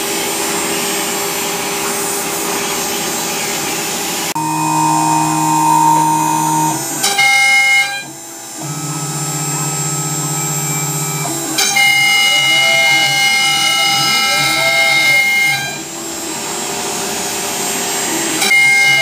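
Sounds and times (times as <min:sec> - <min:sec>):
router machine whine: 0:00.0 - 0:19.0.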